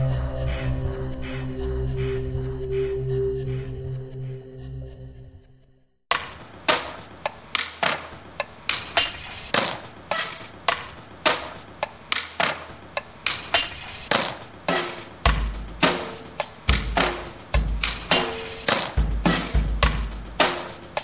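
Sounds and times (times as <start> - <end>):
percussion track of sharp hits: 0.0 - 5.2, 6.1 - 21.0.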